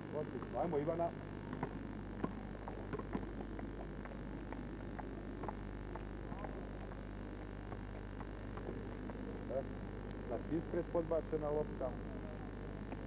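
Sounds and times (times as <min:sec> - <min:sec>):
electrical mains hum and hiss: 0:00.0 - 0:13.0.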